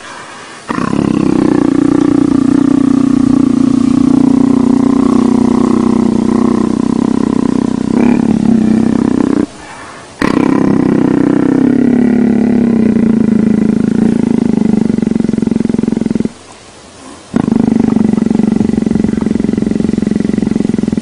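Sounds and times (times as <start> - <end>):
big cat rumbling growl: 0.7 - 16.4, 17.0 - 21.0.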